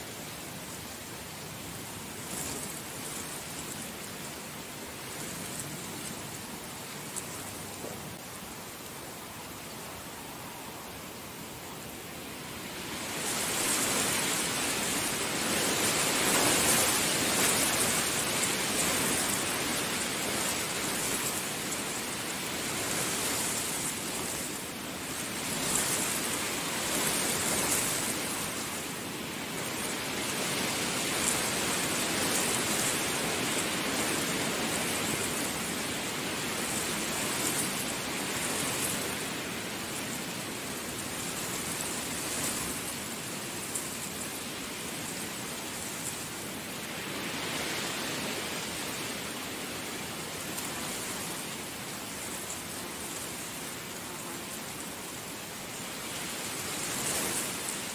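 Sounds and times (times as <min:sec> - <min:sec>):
heavy rain hiss: 0:00.0 - 0:57.9.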